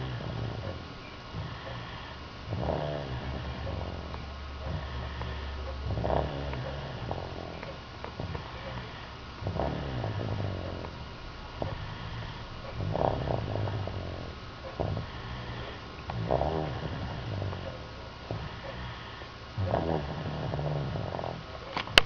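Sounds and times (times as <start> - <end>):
person snoring: 0.0 - 22.0.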